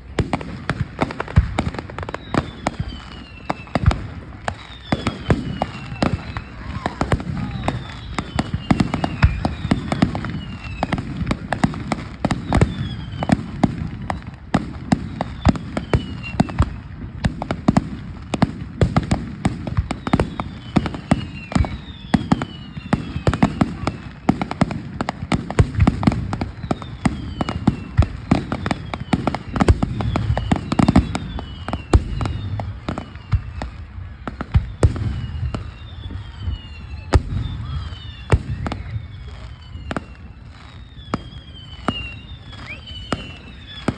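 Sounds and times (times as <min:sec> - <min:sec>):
fireworks bangs and crackles: 0:00.0 - 0:43.9
falling firework whistles: 0:00.1 - 0:43.9.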